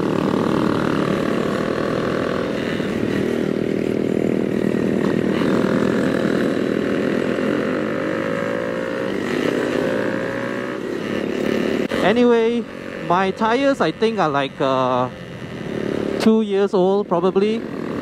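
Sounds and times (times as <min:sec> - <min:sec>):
motorcycle engine with loud exhaust: 0:00.0 - 0:18.0.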